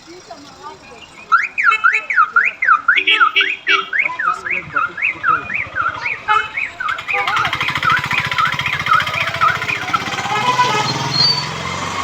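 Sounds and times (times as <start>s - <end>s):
electronic alarm wailing: 1.3s - 11.6s.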